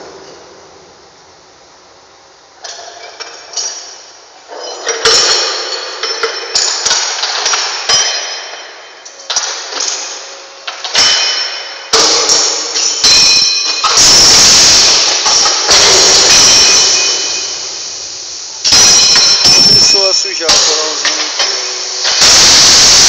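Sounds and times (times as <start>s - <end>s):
metal clanging and banging: 2.6s - 17.6s, 18.6s - 23.0s.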